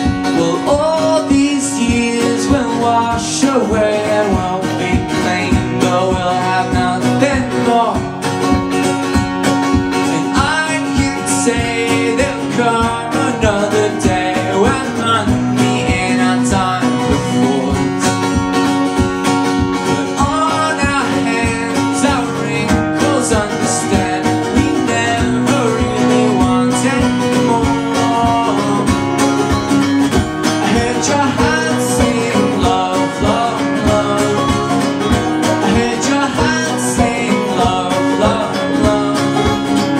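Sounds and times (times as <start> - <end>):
man singing: 0.0 - 8.3, 9.9 - 18.5, 19.8 - 29.8, 30.4 - 39.9
banjo: 0.0 - 39.9
strummed acoustic guitar: 0.0 - 39.9.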